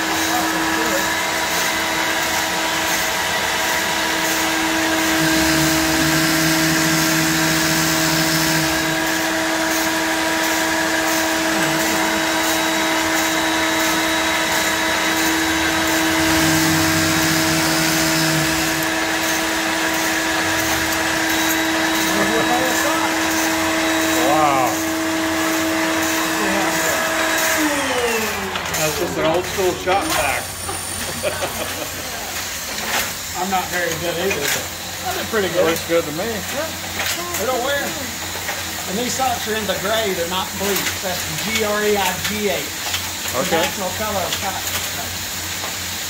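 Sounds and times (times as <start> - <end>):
sewing machine motor whirring: 0.0 - 44.6.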